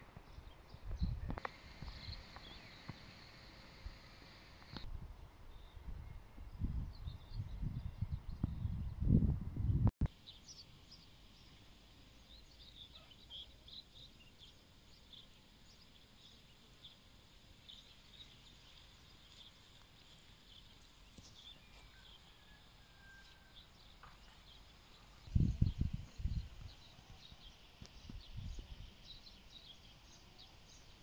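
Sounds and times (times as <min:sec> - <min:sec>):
small birds chirping: 0:00.2 - 0:04.9, 0:10.1 - 0:31.0.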